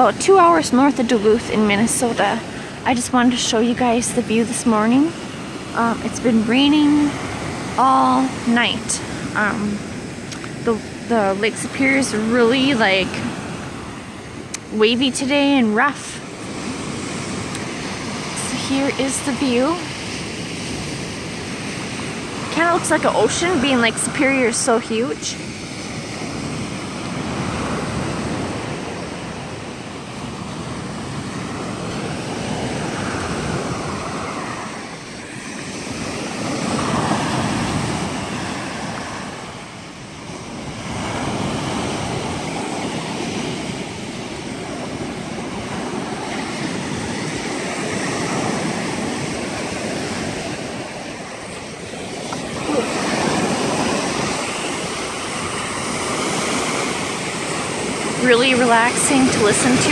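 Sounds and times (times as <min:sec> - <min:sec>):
surf breaking on rocky shore: 0:00.0 - 0:59.9.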